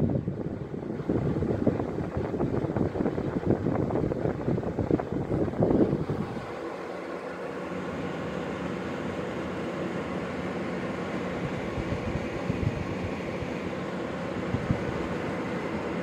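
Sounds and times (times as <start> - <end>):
mechanical whirring hum: 0.0 - 16.0.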